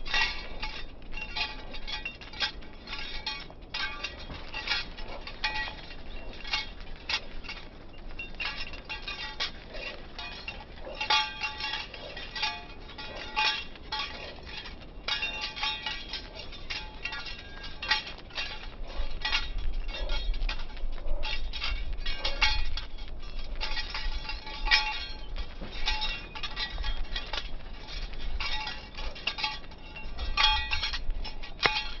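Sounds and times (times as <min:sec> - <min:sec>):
dog tags jingling: 0:00.0 - 0:32.0.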